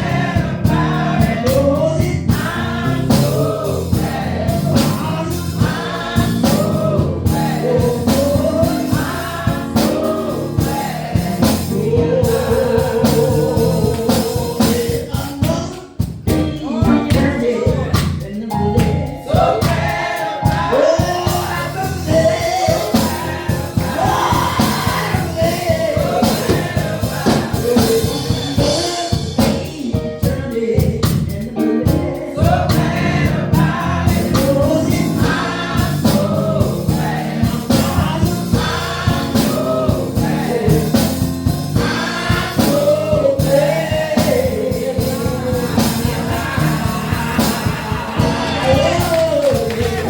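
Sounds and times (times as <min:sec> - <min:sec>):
band accompaniment with steady beat: 0:00.0 - 0:50.0
choir singing gospel song: 0:00.0 - 0:50.0.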